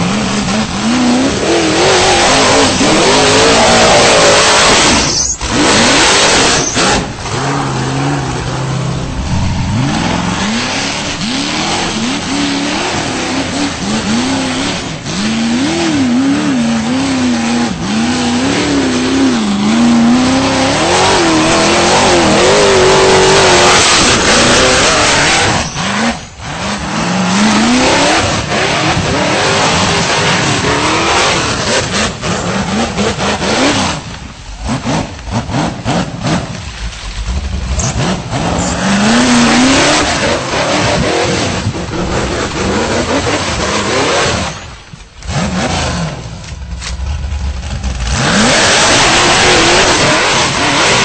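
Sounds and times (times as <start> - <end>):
engine revving hard: 0.0 - 51.0.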